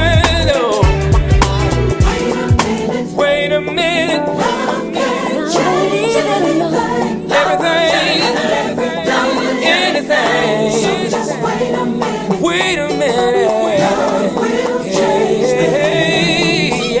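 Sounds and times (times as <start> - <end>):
gospel choir singing: 0.0 - 17.0
sustained backing music: 0.0 - 17.0.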